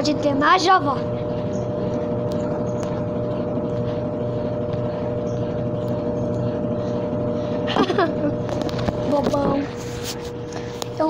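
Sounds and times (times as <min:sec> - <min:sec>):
washing machine spinning hum: 0:00.0 - 0:11.0.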